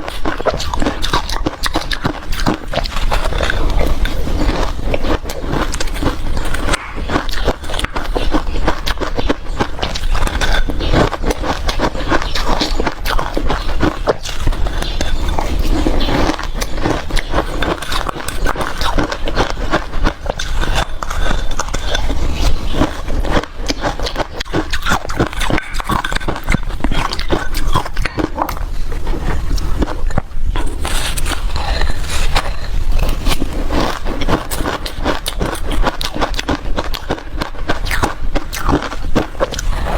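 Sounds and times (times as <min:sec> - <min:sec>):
chewing ice crunches: 0:00.0 - 0:39.9.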